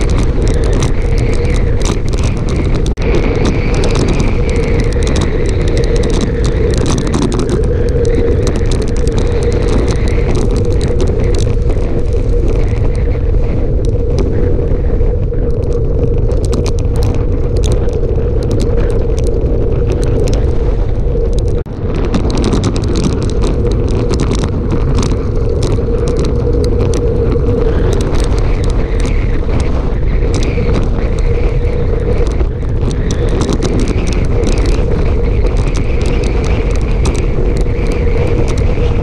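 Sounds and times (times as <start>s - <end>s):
constant hum: 0.0s - 39.0s
small clicks and rattles: 0.0s - 39.0s
wind rushing over microphone: 0.0s - 39.0s.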